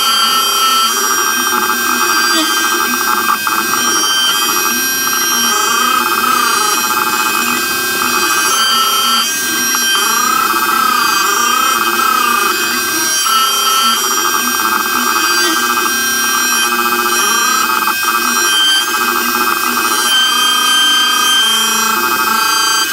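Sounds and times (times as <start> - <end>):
cnc router spindle whine: 0.0 - 22.9.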